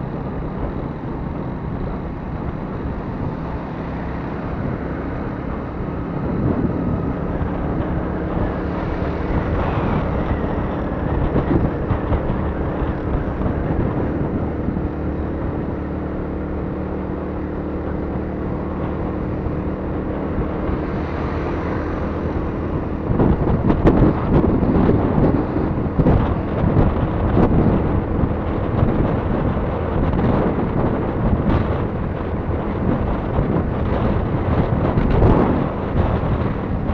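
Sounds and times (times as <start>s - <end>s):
motorcycle engine running: 0.0s - 36.9s
wind noise on microphone: 0.0s - 36.9s.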